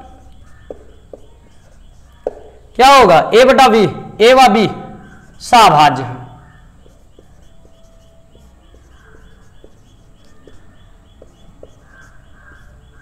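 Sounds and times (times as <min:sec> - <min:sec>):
marker squeaking on whiteboard: 0:00.0 - 0:03.1, 0:03.7 - 0:13.0.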